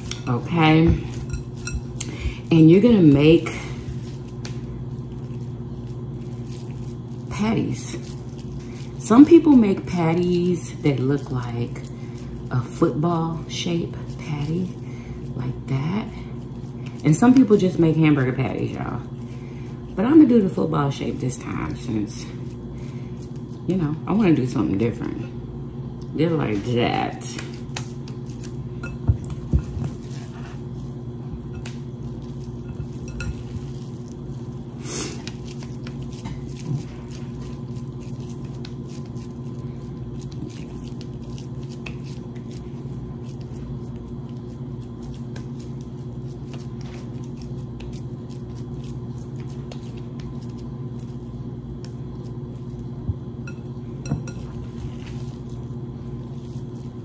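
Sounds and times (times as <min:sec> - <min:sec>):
meat squishing and patting: 0:00.0 - 0:24.7, 0:27.2 - 0:57.0
steady low hum: 0:00.0 - 0:57.0.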